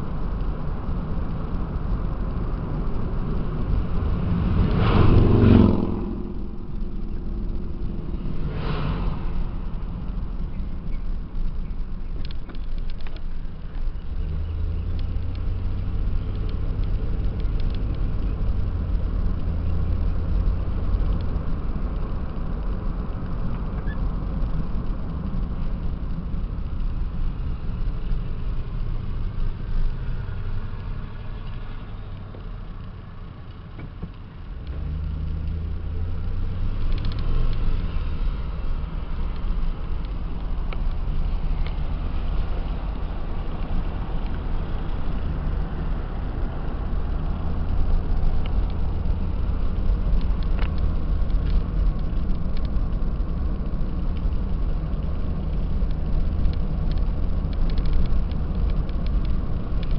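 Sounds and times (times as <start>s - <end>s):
car engine hum: 0.0s - 59.9s
road noise inside car: 0.0s - 59.9s.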